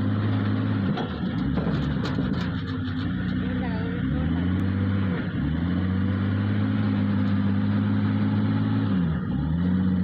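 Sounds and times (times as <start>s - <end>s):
heavy machine engine running: 0.0s - 10.0s.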